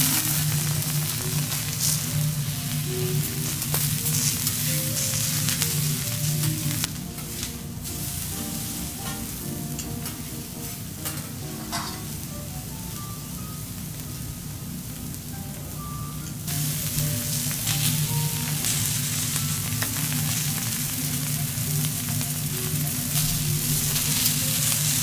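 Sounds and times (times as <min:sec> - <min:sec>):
vegetables sizzling on a griddle: 0:00.0 - 0:25.0.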